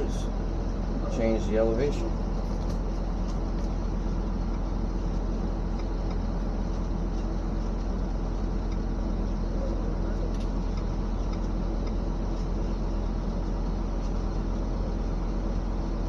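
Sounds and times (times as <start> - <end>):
diesel engine low hum: 0.0 - 16.0.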